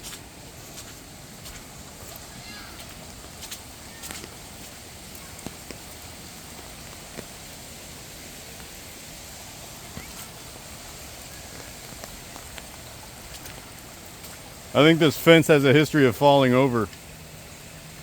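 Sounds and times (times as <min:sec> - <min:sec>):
rain hissing on flooded ground: 0:00.0 - 0:18.0.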